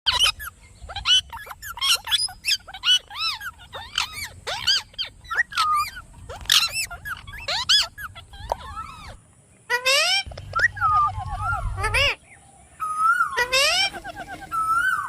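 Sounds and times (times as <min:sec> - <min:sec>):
parrot whistles and chirps: 0:00.1 - 0:09.2, 0:10.0 - 0:12.2, 0:12.8 - 0:15.0
parrot screeches: 0:00.1 - 0:12.2, 0:12.8 - 0:15.0.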